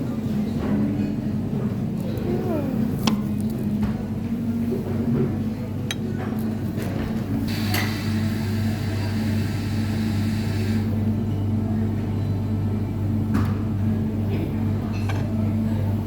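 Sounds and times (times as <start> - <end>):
low appliance hum: 0.0 - 16.0.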